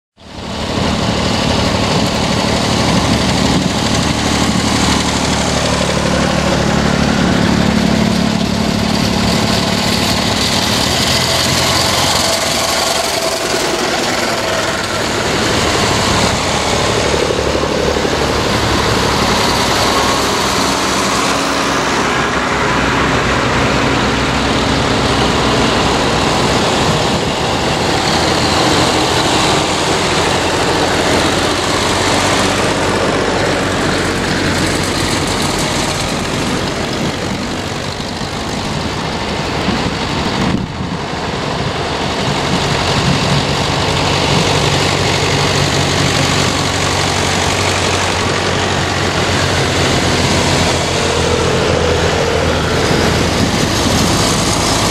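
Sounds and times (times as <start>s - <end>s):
tractor engines droning: 0.2s - 54.9s.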